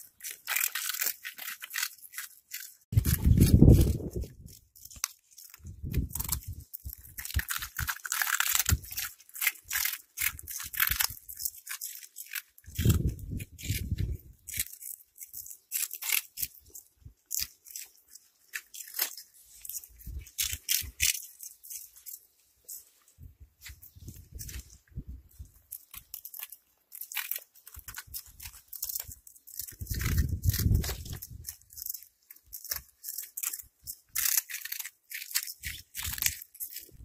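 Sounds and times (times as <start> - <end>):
cats crunching snacks: 0.0 - 37.0.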